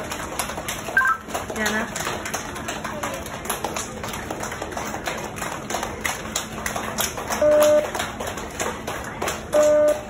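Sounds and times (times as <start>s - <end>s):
crowd clapping: 0.0s - 10.0s.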